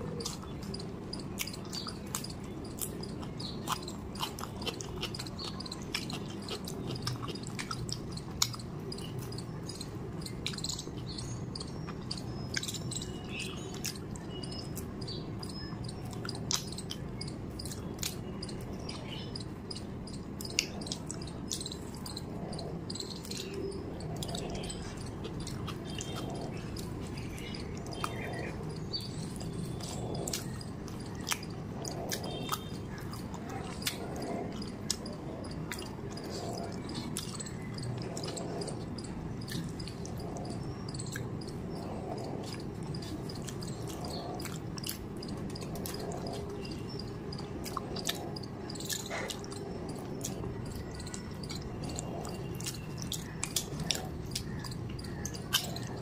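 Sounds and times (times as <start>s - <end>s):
chewing and lip-smacking: 0.0s - 56.0s
sharp mouth clicks: 0.0s - 56.0s
steady low hum: 0.0s - 56.0s.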